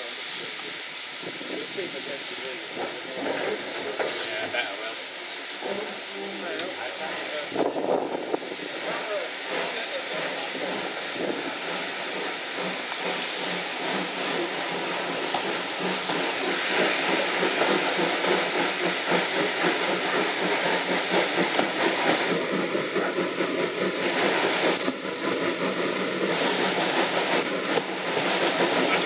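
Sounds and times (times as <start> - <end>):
steam locomotive chuffing: 0.0 - 29.0
train wheels on rails: 0.0 - 29.0.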